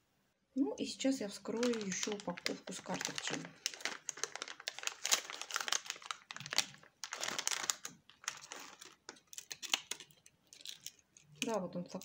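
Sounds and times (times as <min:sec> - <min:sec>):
plastic bag crinkling: 0:01.4 - 0:12.0.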